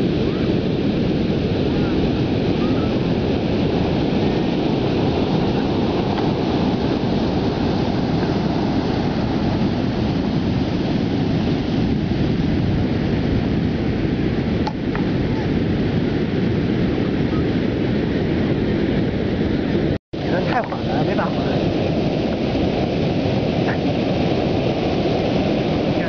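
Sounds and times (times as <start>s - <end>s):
ocean surf breaking: 0.0s - 26.0s
wind buffeting microphone: 0.0s - 26.0s.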